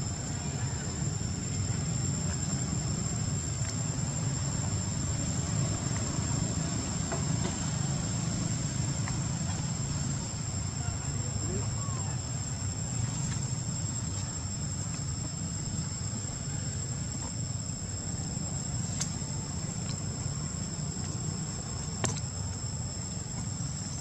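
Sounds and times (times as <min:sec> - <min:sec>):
high-pitched insect drone: 0:00.0 - 0:24.0
low steady rumble: 0:00.0 - 0:24.0.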